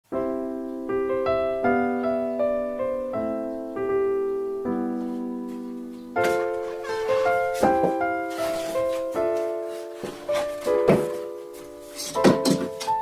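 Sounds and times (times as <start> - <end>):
gentle piano melody: 0.1 - 13.0.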